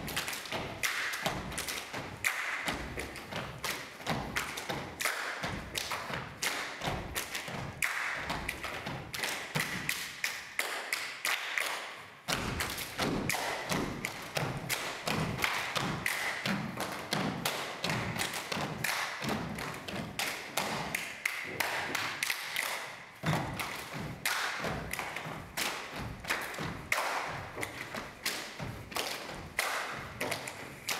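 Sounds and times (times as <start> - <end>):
dancers' feet tapping on stage: 0.0 - 10.0, 12.3 - 30.9.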